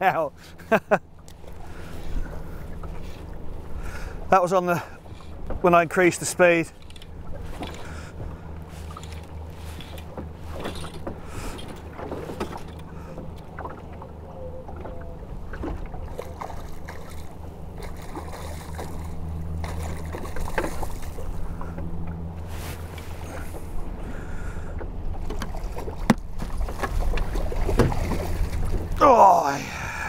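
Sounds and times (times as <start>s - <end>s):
waves slapping against boat hull: 1.2s - 29.1s.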